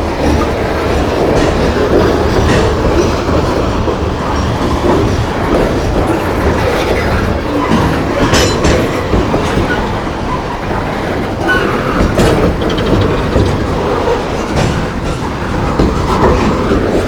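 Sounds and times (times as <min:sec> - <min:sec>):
freight train cars rolling past: 0:00.0 - 0:17.0
steel wheels clattering on rail joints: 0:00.0 - 0:17.0
train clanks and squeals: 0:00.0 - 0:17.0.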